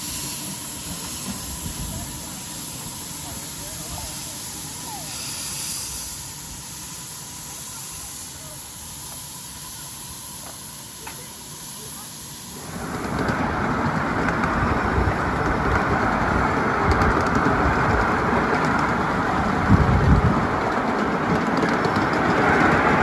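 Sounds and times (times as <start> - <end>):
rushing rumble of train on track: 0.0 - 23.0
steam hissing: 0.0 - 23.0.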